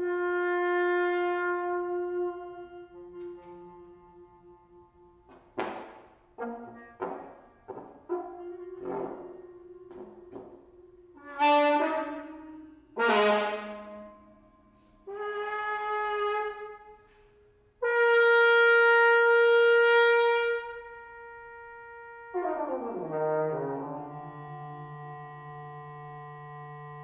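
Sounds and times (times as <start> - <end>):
bass trumpet notes: 0.0 - 27.0.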